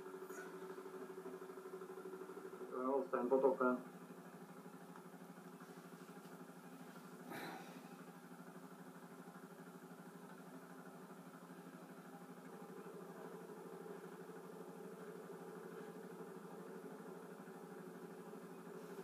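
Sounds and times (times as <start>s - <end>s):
faint pulsing engine drone: 0.0s - 19.0s.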